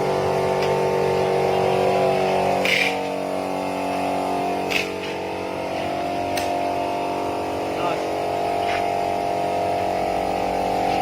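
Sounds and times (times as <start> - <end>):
laminating machine humming: 0.0 - 11.0.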